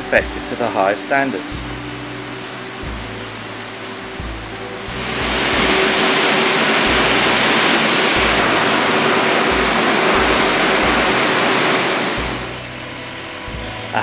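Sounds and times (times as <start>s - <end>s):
sprayer fan rushing hiss: 0.0s - 14.0s.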